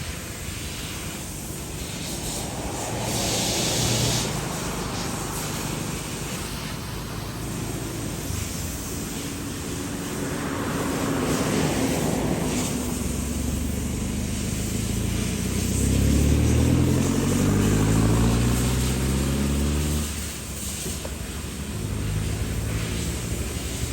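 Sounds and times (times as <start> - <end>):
airplane flying overhead: 0.0 - 23.9.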